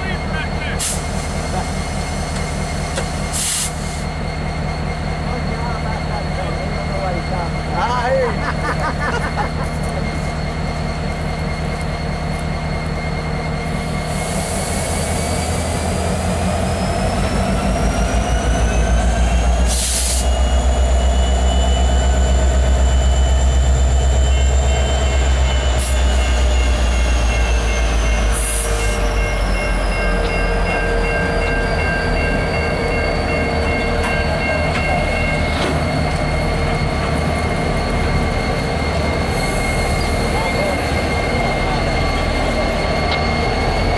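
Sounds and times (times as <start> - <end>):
diesel locomotive engines rumbling: 0.0 - 43.9.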